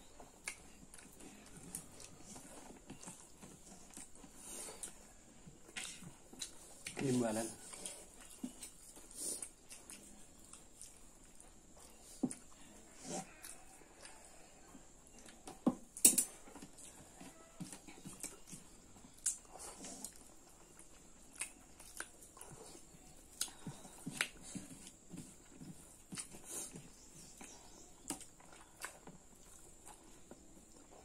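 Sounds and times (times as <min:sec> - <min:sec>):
chewing and lip smacks: 0:00.0 - 0:31.0.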